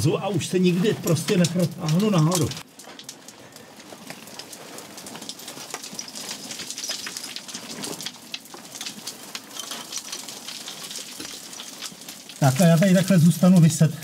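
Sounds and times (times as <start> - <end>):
sand and grit crunching: 0.0 - 13.9.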